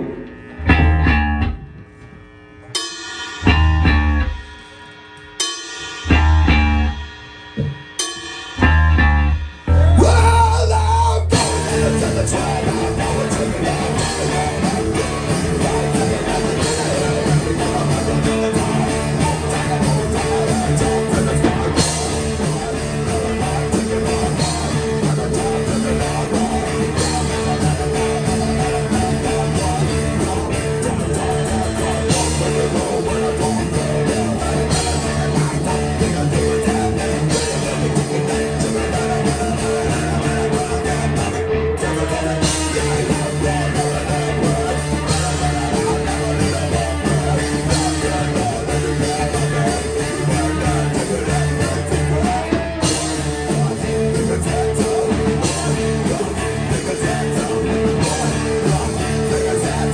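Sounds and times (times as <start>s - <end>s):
live rock band playing: 0.0s - 2.0s, 2.6s - 59.9s
bass and drum hits: 0.0s - 59.9s
electric guitar: 0.0s - 59.9s
person singing: 9.6s - 59.9s.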